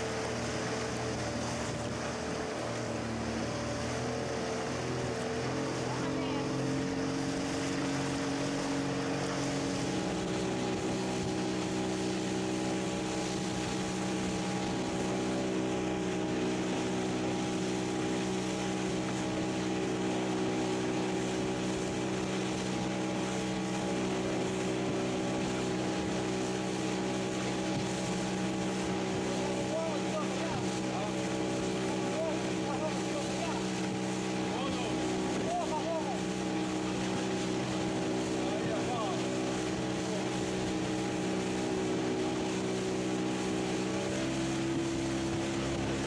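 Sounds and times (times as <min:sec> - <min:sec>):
motorboat engine running: 0:00.0 - 0:46.0
water rushing past hull: 0:00.0 - 0:46.0.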